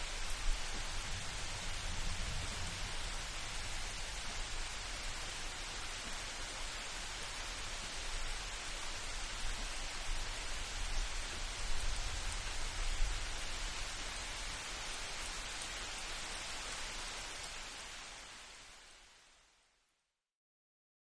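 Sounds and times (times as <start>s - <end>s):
rain falling: 0.0s - 19.7s.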